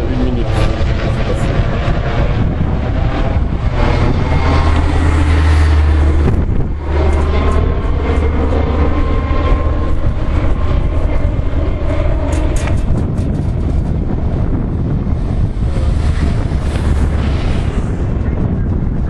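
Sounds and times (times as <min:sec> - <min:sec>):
helicopter flying overhead: 0:00.0 - 0:19.0.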